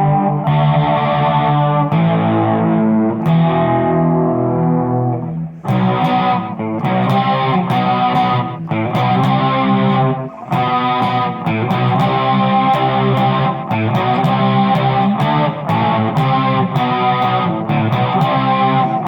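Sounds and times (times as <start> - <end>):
distorted electric guitar strumming: 0.0 - 19.0.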